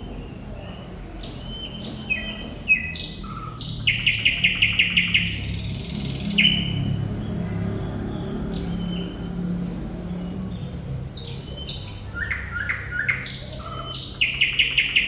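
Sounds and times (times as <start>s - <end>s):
thrush nightingale singing: 0.2s - 7.3s, 9.9s - 15.0s.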